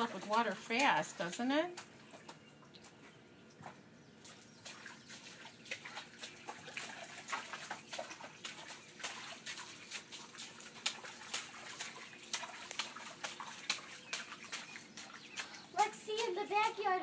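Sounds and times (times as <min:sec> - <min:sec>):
feet splashing through puddle: 0:00.0 - 0:03.0, 0:04.2 - 0:17.0.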